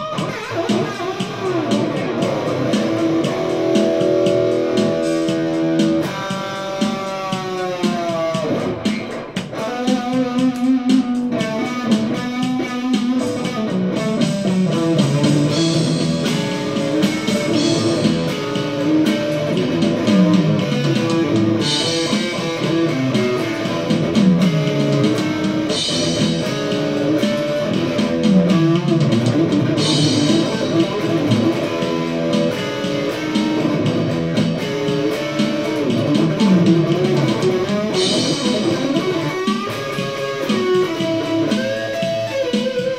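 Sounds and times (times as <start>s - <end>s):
electric guitar melody: 0.0s - 42.9s.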